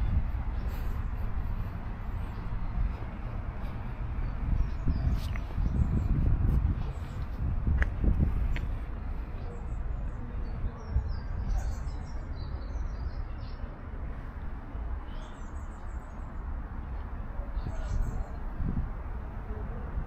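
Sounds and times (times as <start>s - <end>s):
small birds chirping: 0.0s - 18.8s
low outdoor rumble: 0.0s - 20.0s.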